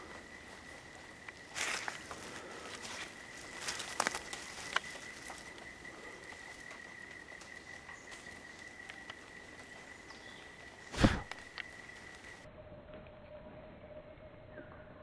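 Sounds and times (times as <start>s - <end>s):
high-pitched insect drone: 0.0s - 14.9s.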